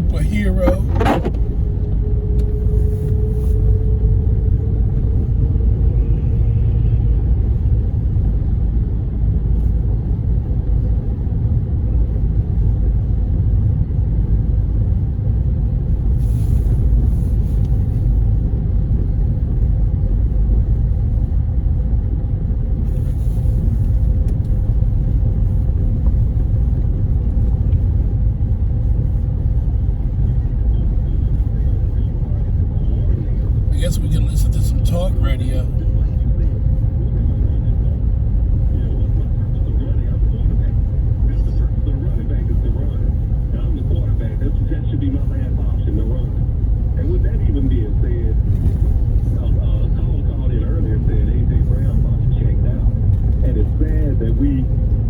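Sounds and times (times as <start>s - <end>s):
car driving low rumble: 0.0s - 55.0s.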